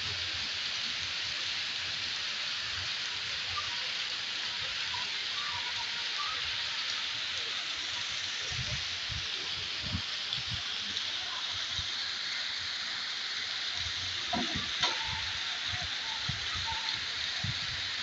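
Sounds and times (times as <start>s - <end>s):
heavy rain on flooded street: 0.0s - 18.0s.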